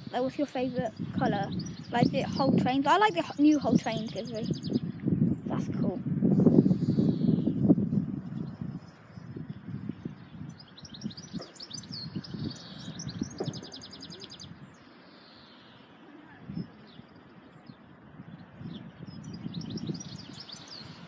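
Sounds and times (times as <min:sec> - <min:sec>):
wind noise rumble: 0:00.0 - 0:14.8, 0:16.3 - 0:21.0
songbird singing with trill: 0:00.0 - 0:21.0.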